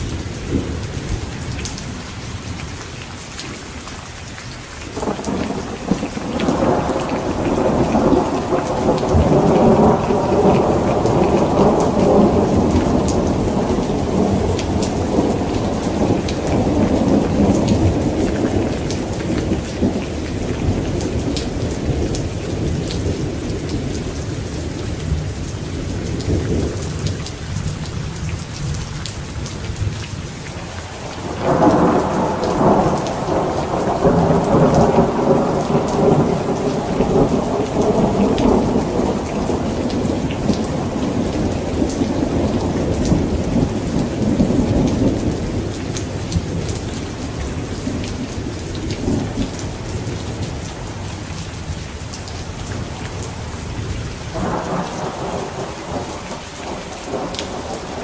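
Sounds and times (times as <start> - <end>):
steady rain: 0.0 - 58.0
rolling thunder: 5.0 - 27.7, 31.1 - 50.6, 53.8 - 58.0.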